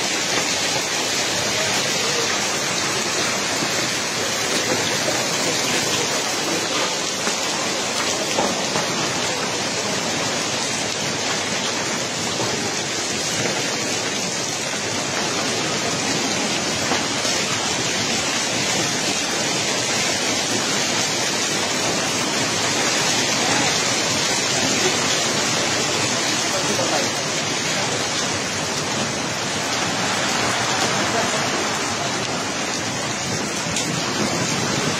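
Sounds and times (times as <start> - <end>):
hail pattering on pavement: 0.0 - 34.9.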